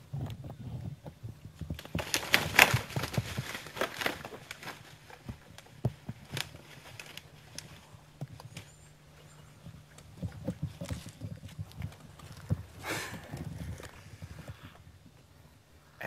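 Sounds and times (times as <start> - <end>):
deer footsteps in dry grass: 0.0 - 15.9
faint steady hum: 0.0 - 16.0.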